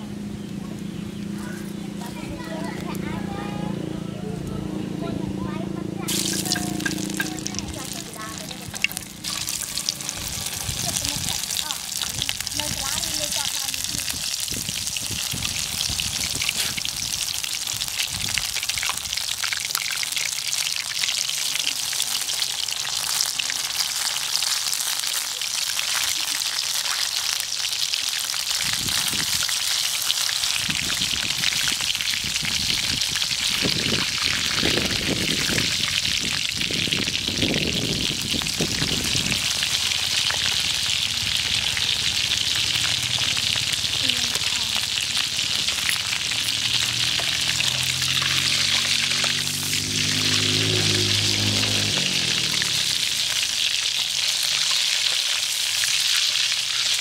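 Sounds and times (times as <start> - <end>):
food deep-frying in hot oil: 6.0 - 57.0.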